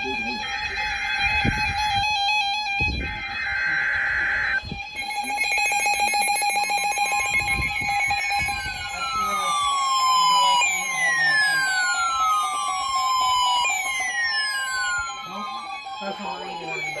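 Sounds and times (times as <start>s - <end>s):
falling siren-like tones: 0.0s - 17.0s
steady electronic alert tones: 0.0s - 17.0s
two-tone data screech: 0.1s - 17.0s.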